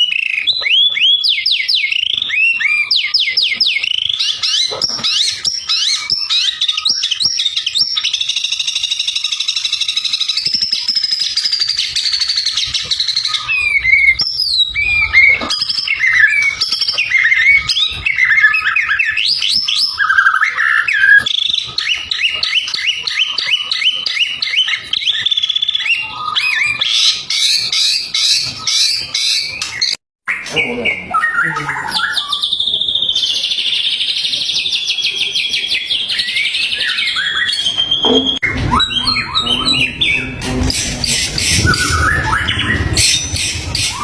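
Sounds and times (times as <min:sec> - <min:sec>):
bird singing whistled song: 0:00.0 - 0:44.0.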